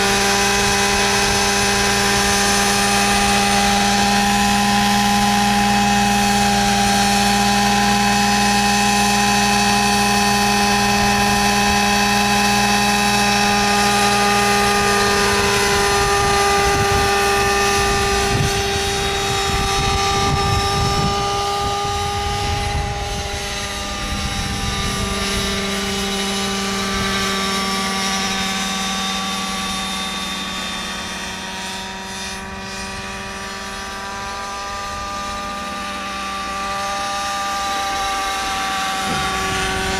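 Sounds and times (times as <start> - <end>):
model helicopter engine and rotor: 0.0 - 39.9.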